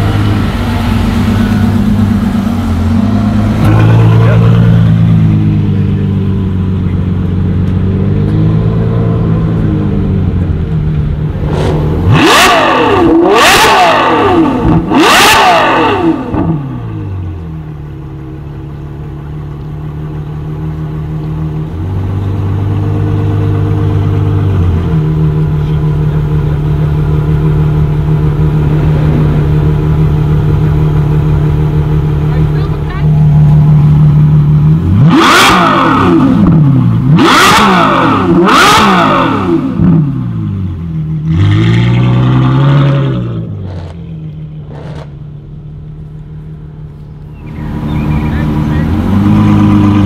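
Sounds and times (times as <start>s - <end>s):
car engine idling and revving: 0.0s - 50.0s.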